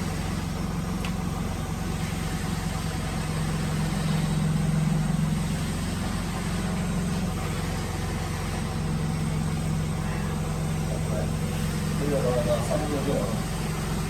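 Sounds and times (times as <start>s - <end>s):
drill motor humming: 0.0s - 14.0s.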